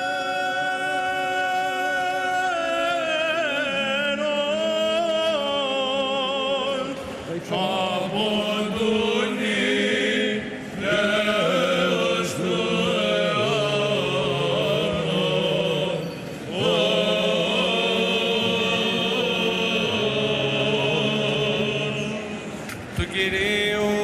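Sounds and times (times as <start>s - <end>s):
men chanting: 0.0s - 22.4s.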